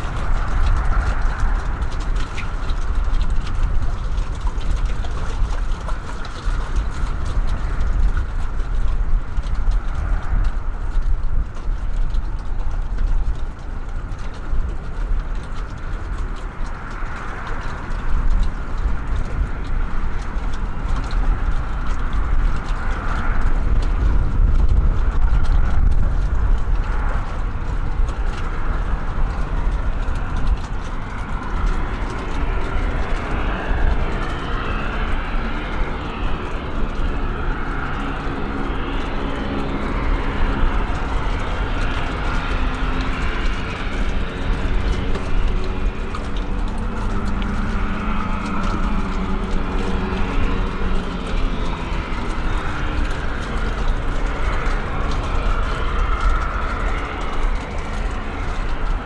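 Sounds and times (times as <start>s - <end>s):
turboprop engine droning: 0.0s - 59.0s.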